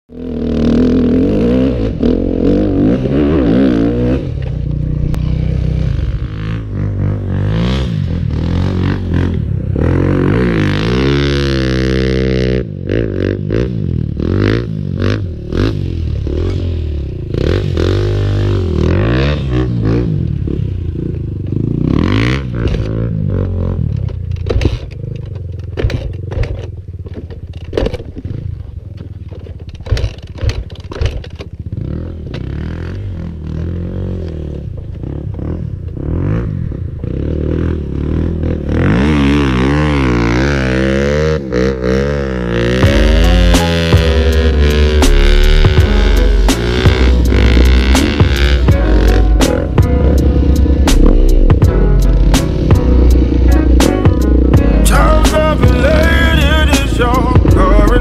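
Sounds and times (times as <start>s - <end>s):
dirt bike engine revving: 0.1s - 28.8s, 29.4s - 58.0s.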